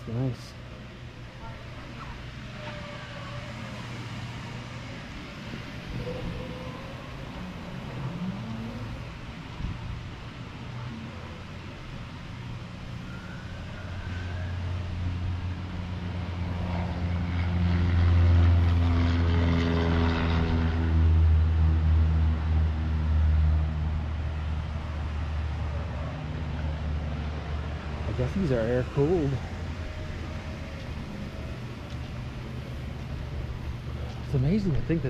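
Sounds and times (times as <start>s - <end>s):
propeller aircraft engine: 0.6s - 35.0s.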